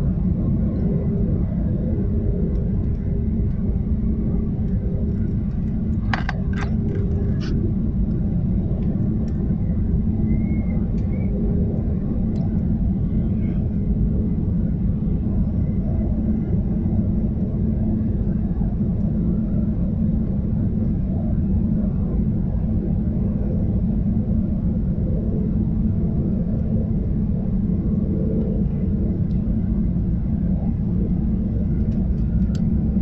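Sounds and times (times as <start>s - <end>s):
jet engine rumble and rushing air: 0.0s - 33.0s
steady hum: 0.0s - 33.0s.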